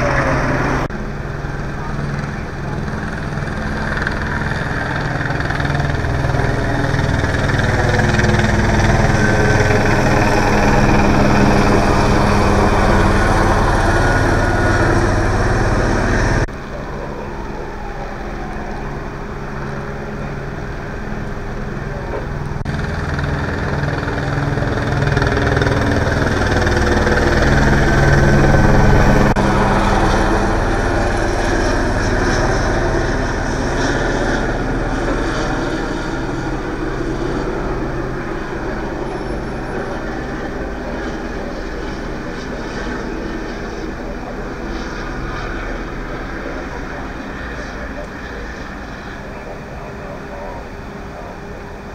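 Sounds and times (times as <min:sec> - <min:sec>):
vehicle engines humming: 0:00.0 - 0:51.9.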